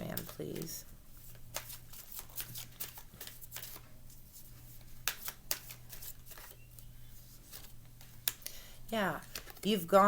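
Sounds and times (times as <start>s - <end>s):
cards being shuffled: 0.0s - 8.4s, 9.1s - 10.0s.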